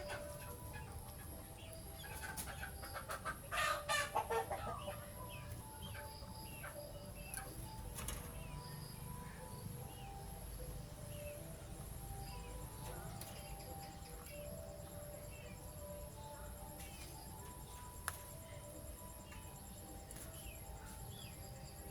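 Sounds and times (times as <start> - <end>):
small bird chirps: 0.0 - 21.9.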